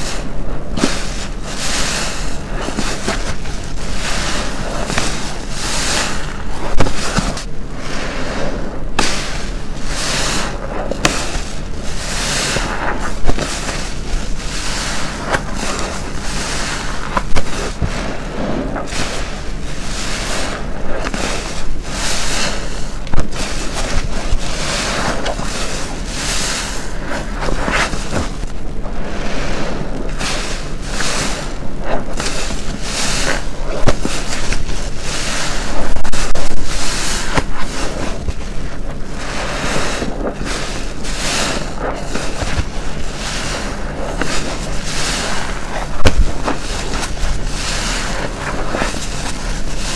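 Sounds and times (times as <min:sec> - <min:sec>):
soapy sponge squelching: 0:00.0 - 0:49.9.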